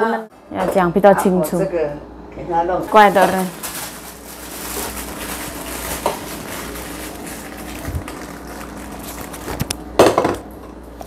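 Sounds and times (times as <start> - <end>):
kitchen hiss and hum: 0.0 - 11.0.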